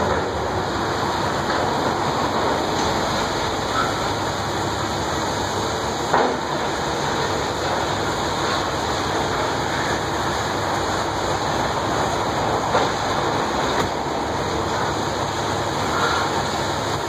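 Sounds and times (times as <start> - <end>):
demolition excavator running: 0.0 - 17.0.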